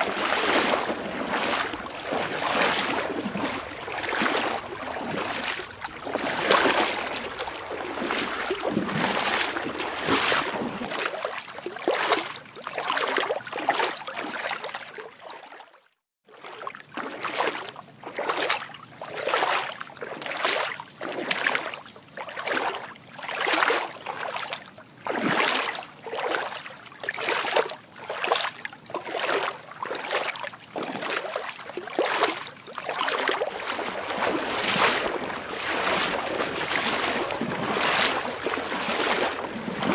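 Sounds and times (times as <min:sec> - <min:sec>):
water swishing and sloshing: 0:00.0 - 0:39.9.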